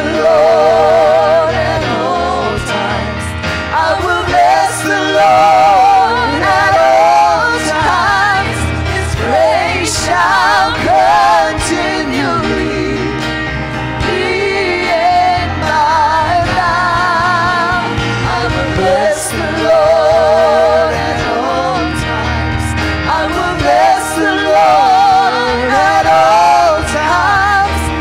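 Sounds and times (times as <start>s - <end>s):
band with steady bass: 0.0s - 28.0s
gospel singing with vibrato: 0.0s - 28.0s.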